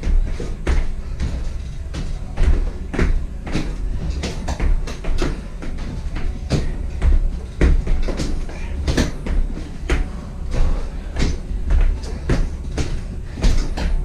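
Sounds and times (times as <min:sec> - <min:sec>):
feet thudding onto a bench: 0:00.0 - 0:14.0
steady low hum: 0:00.0 - 0:14.0.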